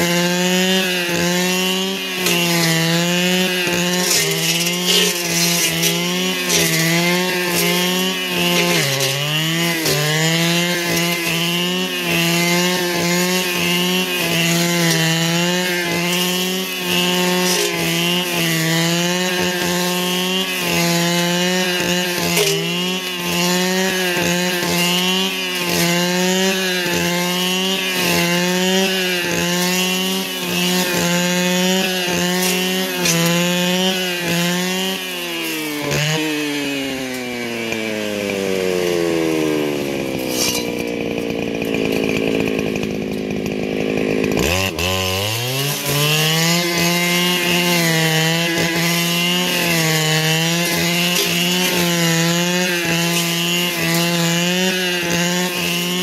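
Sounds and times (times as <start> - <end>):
two-stroke power tool engine revving: 0.0 - 56.0.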